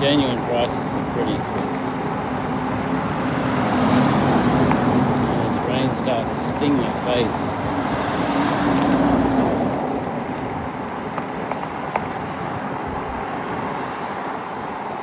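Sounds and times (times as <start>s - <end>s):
road and wind noise: 0.0s - 15.0s
vehicle hum: 0.0s - 15.0s.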